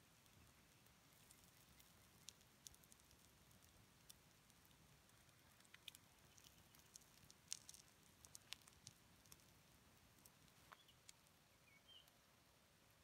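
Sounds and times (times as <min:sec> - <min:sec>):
wood fire crackling and popping: 0:00.0 - 0:11.4.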